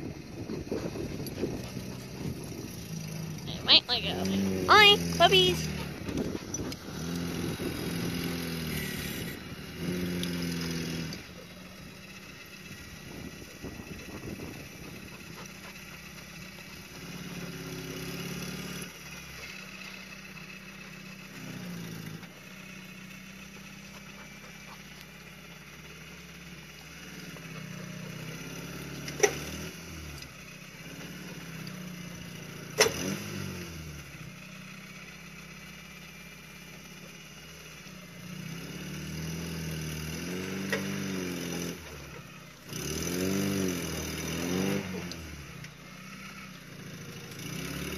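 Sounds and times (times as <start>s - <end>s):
car engine revving: 0.4s - 35.0s, 37.1s - 46.4s.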